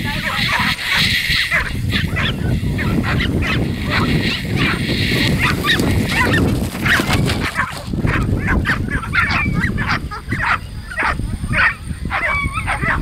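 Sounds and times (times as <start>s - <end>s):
dogs yelping and barking: 0.2s - 13.0s.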